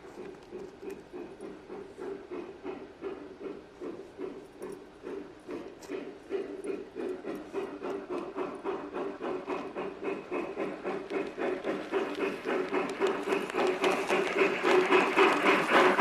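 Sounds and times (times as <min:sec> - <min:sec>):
even clicking of train: 0:00.0 - 0:16.0
model train motor humming: 0:00.0 - 0:16.0.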